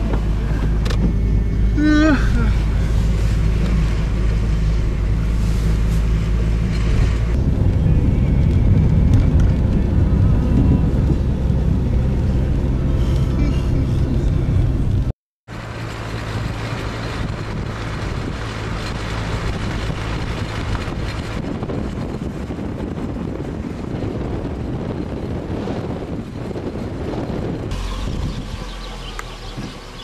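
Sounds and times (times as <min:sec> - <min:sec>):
wind rushing on microphone: 0:00.0 - 0:15.1, 0:16.1 - 0:30.0
car engine hum: 0:00.0 - 0:30.0
road noise: 0:00.0 - 0:30.0.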